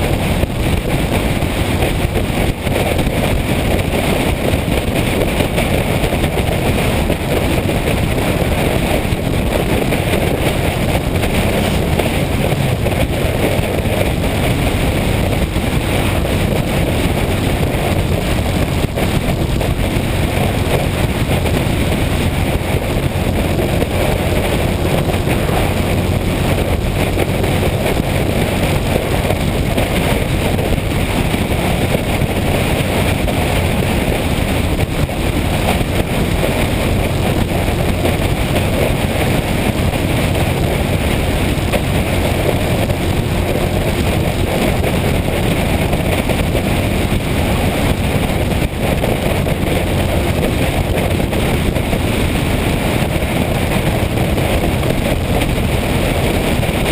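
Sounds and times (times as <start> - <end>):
motorcycle engine running: 0.0 - 56.9
wind rush over microphone: 0.0 - 56.9.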